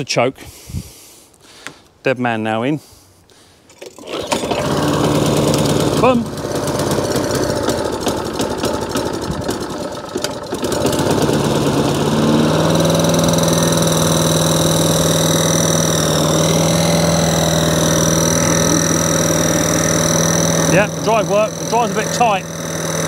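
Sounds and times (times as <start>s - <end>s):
lawn mower engine running: 3.7s - 23.0s.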